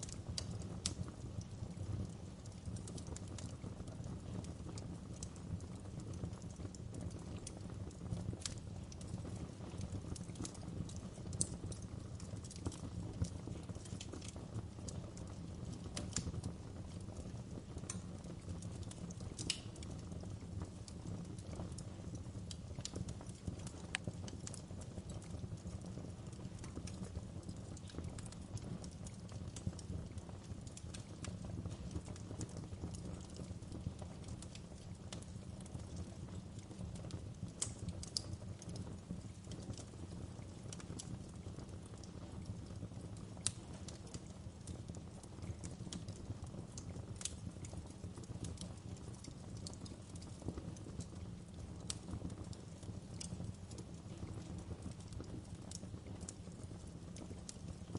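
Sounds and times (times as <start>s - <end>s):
low rumble of flames: 0.0s - 57.9s
wood fire crackling: 0.0s - 57.9s.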